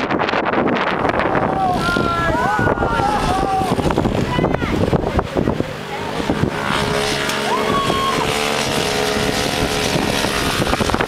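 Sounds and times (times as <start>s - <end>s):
engine revving high: 1.0s - 11.0s
mini dirt bike engines running: 1.1s - 11.0s.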